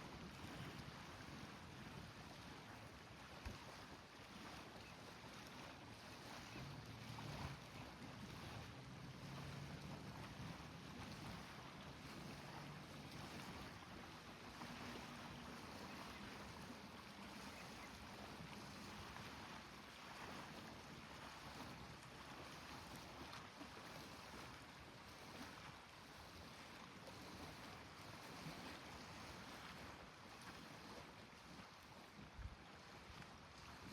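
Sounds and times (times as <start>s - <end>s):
water at shoreline: 0.0s - 33.9s
wind: 0.0s - 33.9s.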